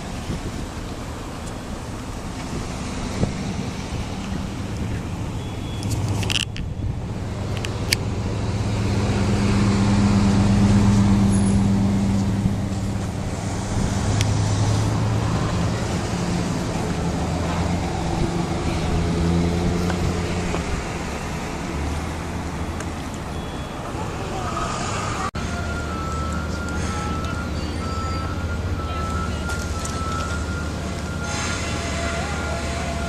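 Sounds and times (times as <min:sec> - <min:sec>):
road noise: 0:00.0 - 0:33.0
vehicle engine drone: 0:00.0 - 0:33.0.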